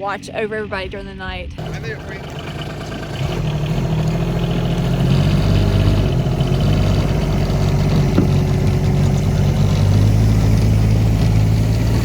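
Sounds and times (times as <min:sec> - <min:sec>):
vehicle engine idling: 0:01.6 - 0:12.0.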